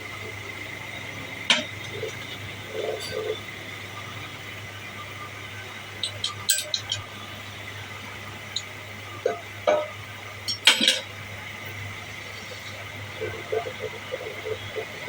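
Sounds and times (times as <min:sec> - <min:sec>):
machine humming and whining: 0:00.0 - 0:15.0.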